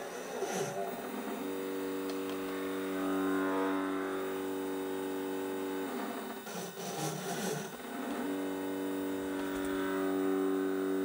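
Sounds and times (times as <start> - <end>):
stepper motors whining: 0.0 - 11.0
low electrical hum: 0.8 - 11.0.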